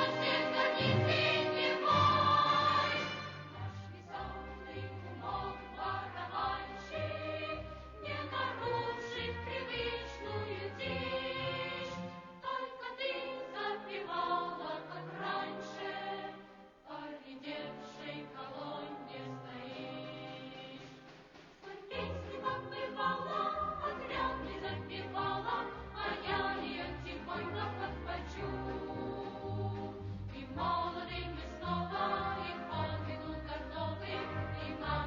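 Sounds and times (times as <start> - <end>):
choir singing with instruments: 0.0 - 35.0.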